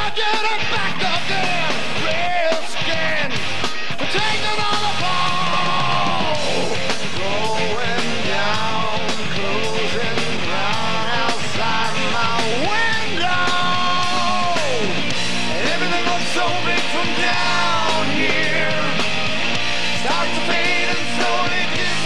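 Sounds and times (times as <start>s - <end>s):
man singing: 0.0s - 3.4s, 4.0s - 19.1s, 20.0s - 22.0s
bass guitar: 0.0s - 22.0s
drums: 0.0s - 22.0s
electric guitar: 0.0s - 22.0s.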